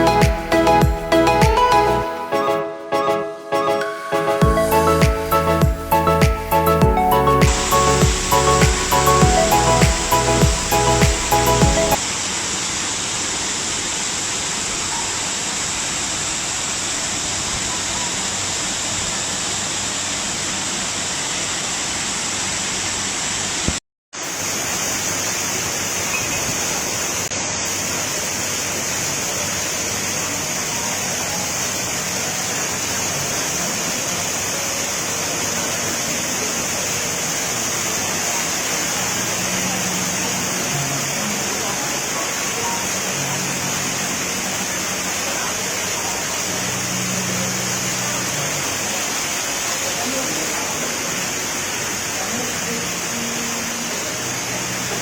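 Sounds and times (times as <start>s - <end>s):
waterfall roaring: 3.9s - 55.0s.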